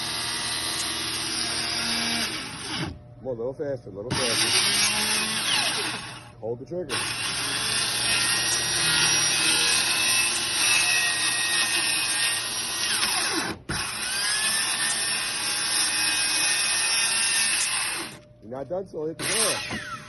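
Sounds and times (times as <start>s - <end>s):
circular saw cutting wood: 0.0s - 3.0s, 4.1s - 6.3s, 6.9s - 18.2s, 19.2s - 20.0s.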